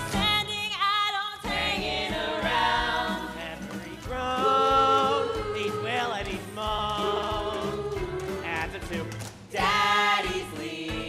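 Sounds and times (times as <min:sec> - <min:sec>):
instrumental accompaniment: 0:01.4 - 0:11.0.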